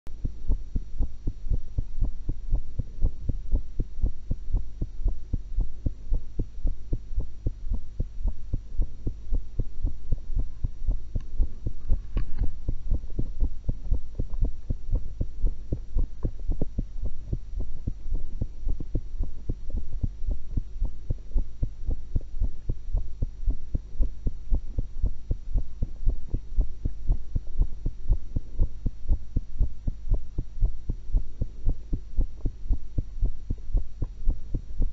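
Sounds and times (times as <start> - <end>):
heartbeat thumps: 0.1 - 34.9
steady low hum: 0.1 - 34.9.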